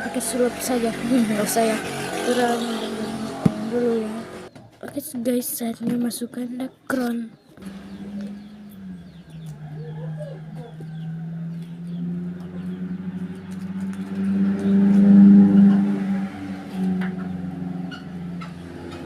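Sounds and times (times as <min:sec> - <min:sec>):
vehicle engine running: 0:00.0 - 0:04.5, 0:07.6 - 0:19.0.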